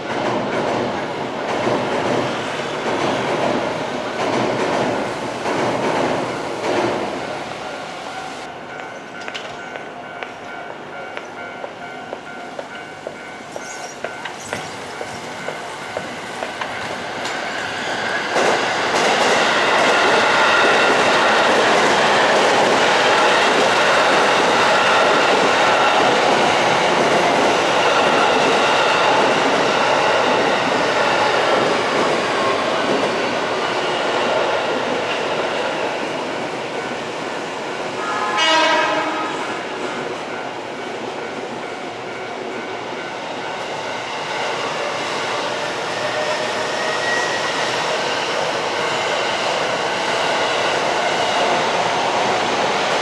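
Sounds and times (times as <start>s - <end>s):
train passing over crossing: 0.0s - 53.0s.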